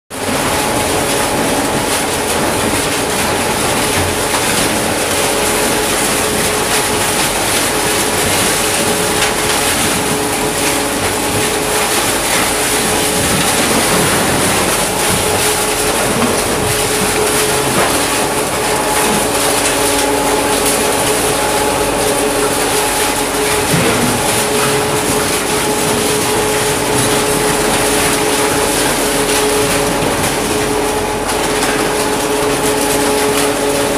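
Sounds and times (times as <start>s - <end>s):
machine hum: 0.1s - 33.9s
sheet metal crunching and clattering: 0.2s - 33.9s.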